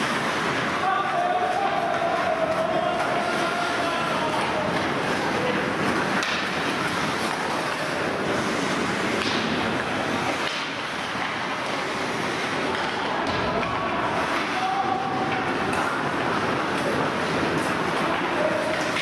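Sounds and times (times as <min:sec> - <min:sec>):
hockey game din: 0:00.0 - 0:19.0.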